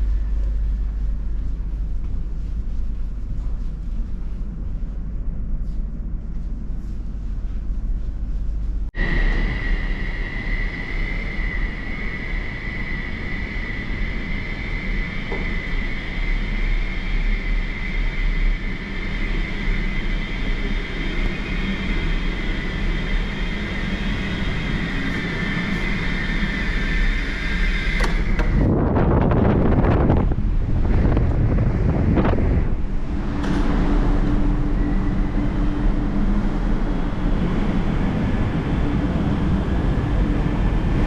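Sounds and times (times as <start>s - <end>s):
mechanical drone with high whine: 0.0s - 41.0s
wind buffeting microphone: 6.6s - 41.0s.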